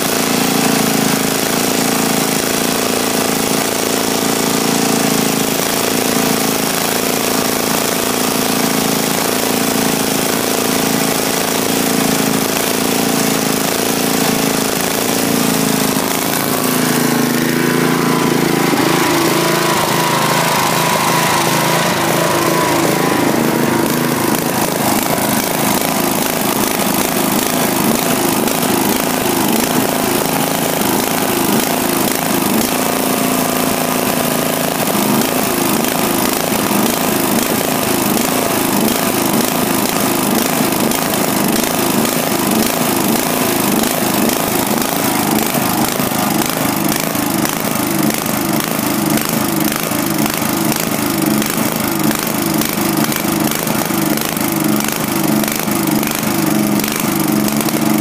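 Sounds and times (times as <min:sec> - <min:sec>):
lawn mower engine running loudly: 0:00.0 - 0:58.0.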